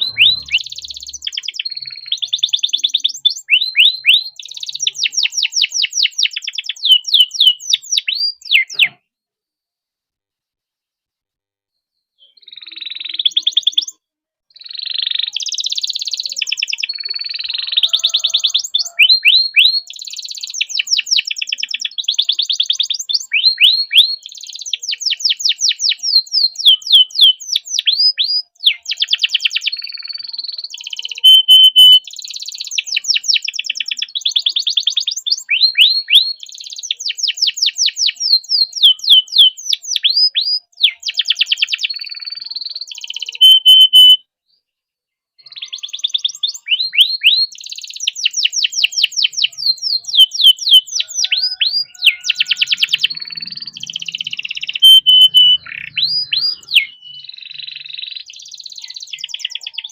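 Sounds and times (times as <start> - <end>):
canary singing trills: 0.0 - 9.0, 12.2 - 44.2, 45.4 - 59.9.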